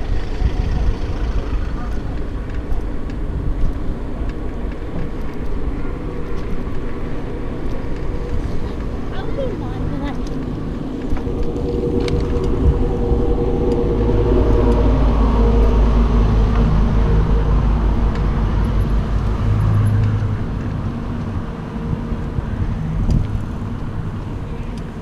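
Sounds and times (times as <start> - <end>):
low wind rumble: 0.0 - 25.0
vehicle engine hum: 0.0 - 25.0.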